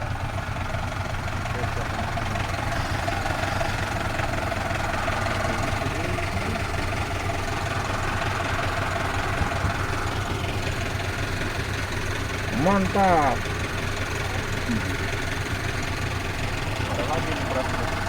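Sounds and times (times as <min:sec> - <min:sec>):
vehicle engine running low revs: 0:00.0 - 0:18.0.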